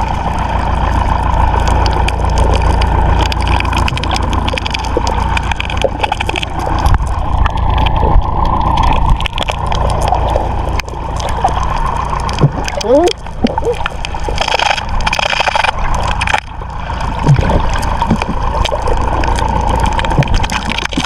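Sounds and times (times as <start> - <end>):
boat engine running: 0.0 - 21.0
wind and water rushing: 0.0 - 21.0.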